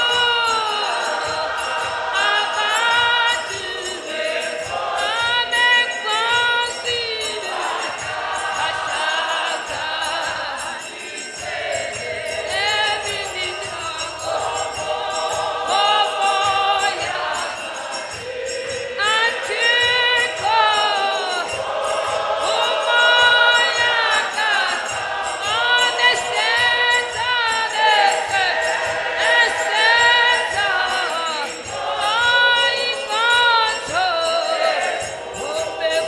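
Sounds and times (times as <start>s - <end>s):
congregation singing a hymn: 0.0s - 36.0s
handbells shaken in rhythm: 0.0s - 36.0s.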